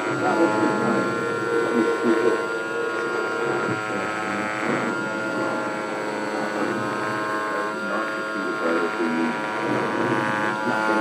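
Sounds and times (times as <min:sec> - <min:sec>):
router motor whine: 0:00.0 - 0:11.0.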